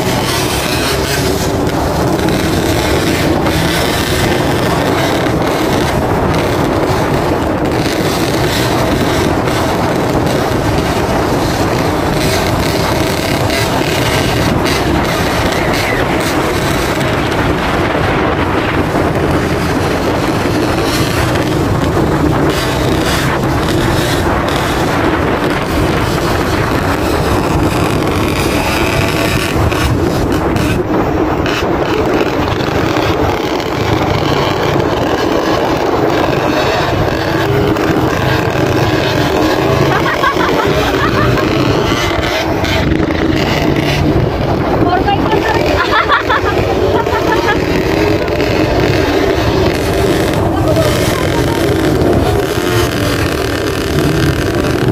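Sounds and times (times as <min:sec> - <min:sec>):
dirt bike engines running: 0:00.0 - 0:54.9
wind buffeting microphone: 0:00.0 - 0:54.9.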